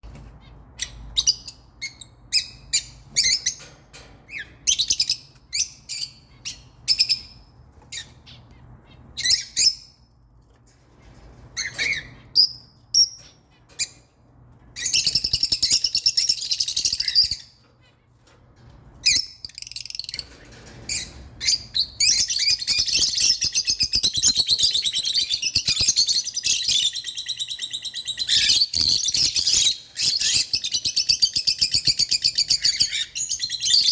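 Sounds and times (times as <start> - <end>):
small birds chirping: 0.0 - 10.1, 10.8 - 33.9.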